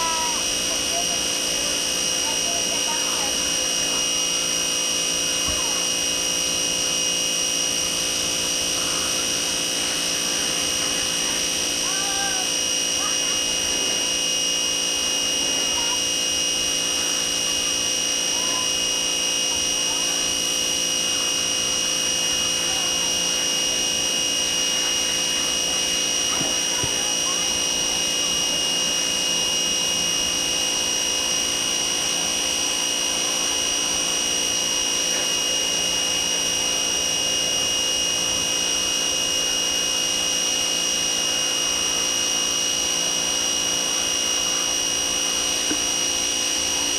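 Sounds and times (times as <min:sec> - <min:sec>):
pressure washer running: 0:00.0 - 0:46.9.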